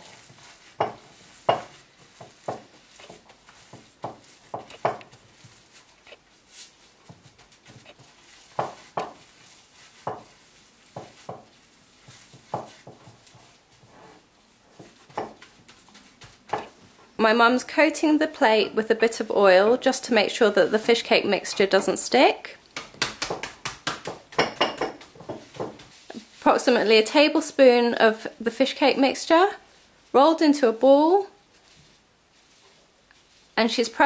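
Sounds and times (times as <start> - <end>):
paste kneaded by hand squelching: 0.0 - 18.4, 19.1 - 34.0.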